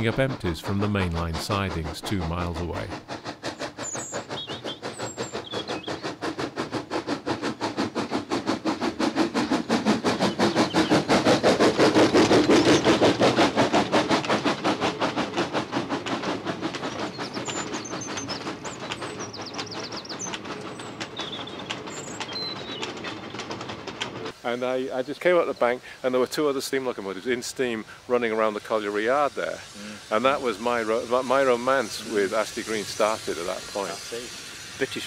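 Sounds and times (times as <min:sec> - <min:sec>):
steam locomotive exhaust beats: 0:00.0 - 0:35.0.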